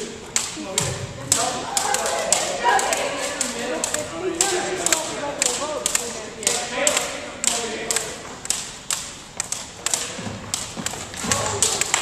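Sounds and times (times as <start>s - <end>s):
jump ropes slapping wooden floor: 0.0s - 12.0s.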